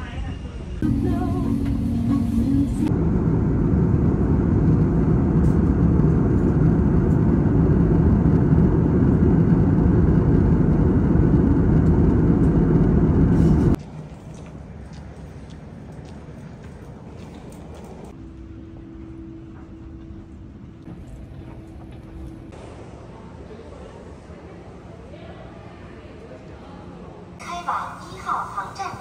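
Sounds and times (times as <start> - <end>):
airliner cabin drone: 0.0 - 29.0
terminal room noise: 0.0 - 29.0.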